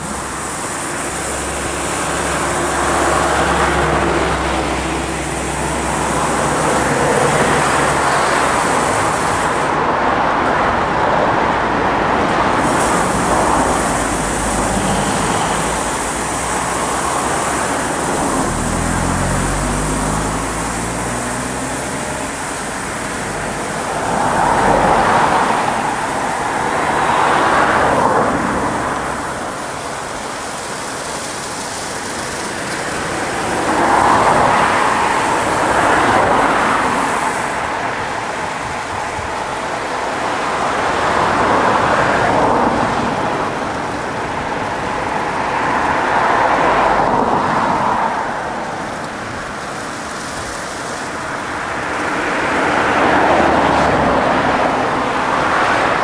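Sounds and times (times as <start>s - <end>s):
car wash brushes and water spray: 0.0s - 56.0s.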